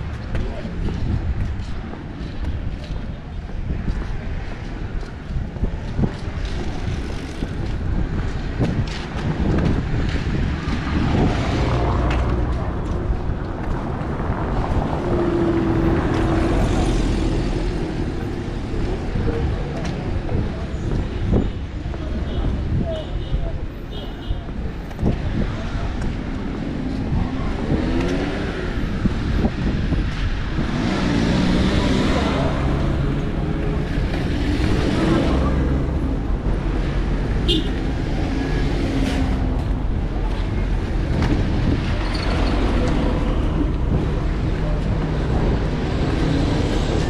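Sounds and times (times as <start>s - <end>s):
wind on microphone: 0.0s - 23.7s, 24.4s - 47.0s
street noise: 0.0s - 47.0s
traffic rumble: 0.0s - 47.0s.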